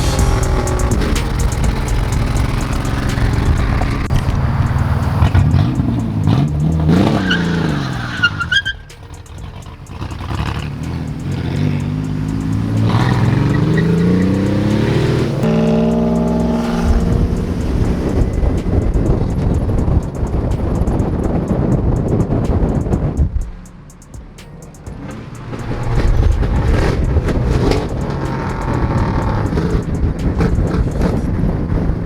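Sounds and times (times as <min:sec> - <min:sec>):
car engine revving: 0:00.0 - 0:32.0
tyres skidding: 0:00.0 - 0:32.0.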